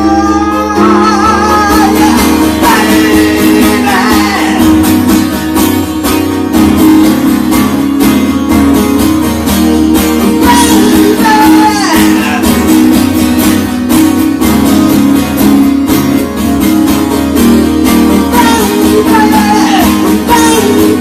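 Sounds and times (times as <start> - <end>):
bending guitar lead line: 0.0 - 21.0
strummed acoustic guitar chords: 0.0 - 21.0.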